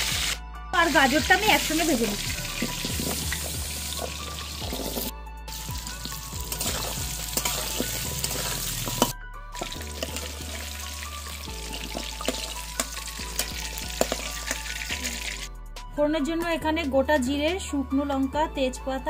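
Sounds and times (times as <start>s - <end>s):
vegetables sizzling in hot oil: 0.0s - 15.5s.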